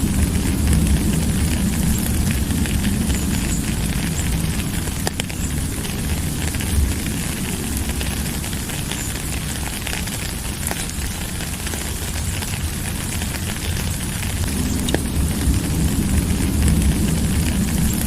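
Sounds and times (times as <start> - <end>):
low rumble: 0.0 - 18.0
raindrops crackling: 0.0 - 18.0
steady rain falling: 0.0 - 18.0.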